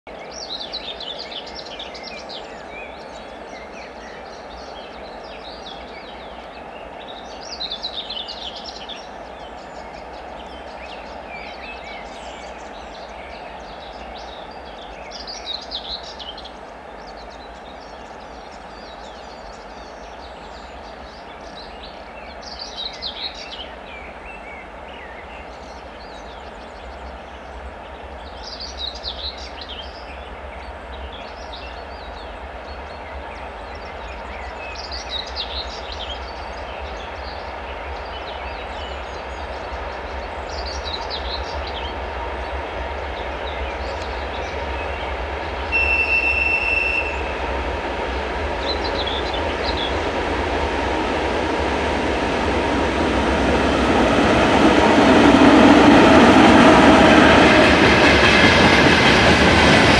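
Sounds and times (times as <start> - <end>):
songbird singing: 0.1 - 59.9
distant diesel locomotive rumble: 2.4 - 59.9.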